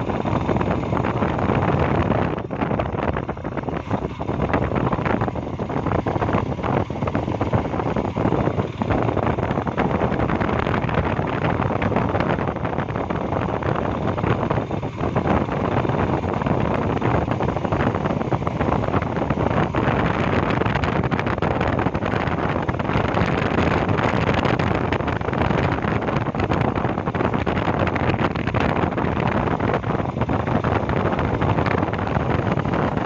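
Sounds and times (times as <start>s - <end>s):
motorcycle riding: 0.0s - 33.0s
wind buffeting microphone: 0.0s - 33.0s.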